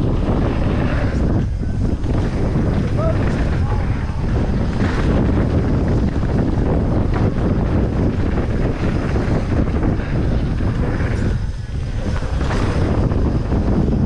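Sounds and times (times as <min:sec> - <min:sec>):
bike rattling: 0:00.0 - 0:14.0
bike tyre noise: 0:00.0 - 0:14.0
wind buffeting microphone: 0:00.0 - 0:14.0.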